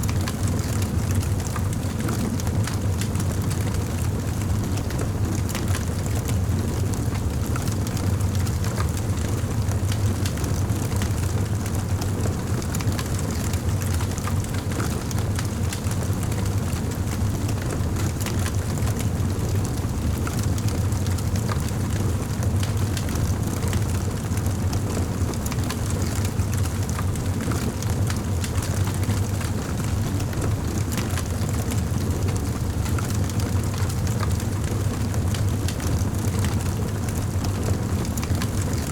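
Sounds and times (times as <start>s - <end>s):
low rumble of fire: 0.0s - 38.9s.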